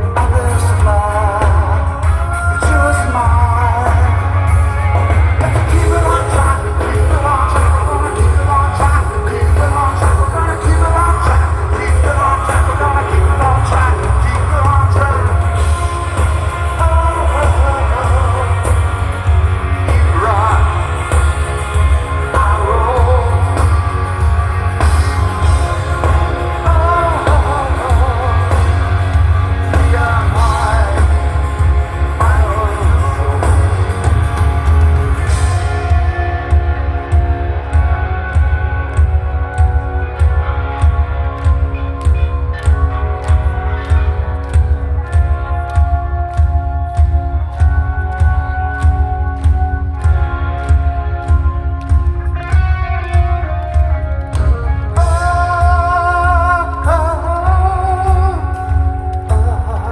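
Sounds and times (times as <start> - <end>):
rock band playing live: 0.0 - 59.9
singer: 0.0 - 59.9.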